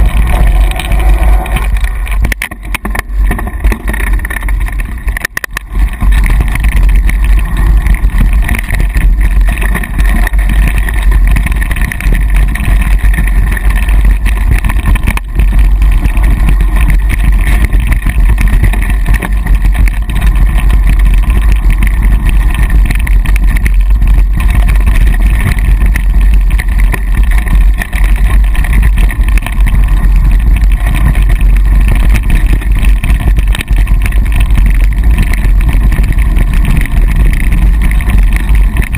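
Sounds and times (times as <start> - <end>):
wind buffeting a microphone: 0.0 - 38.9.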